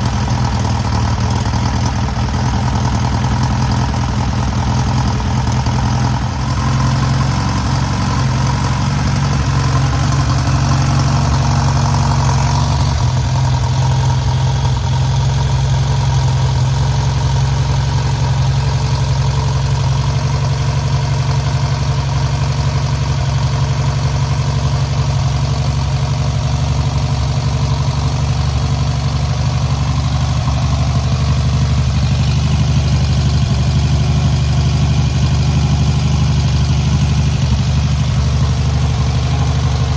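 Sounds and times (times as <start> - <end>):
flat-four engine running: 0.0 - 39.9.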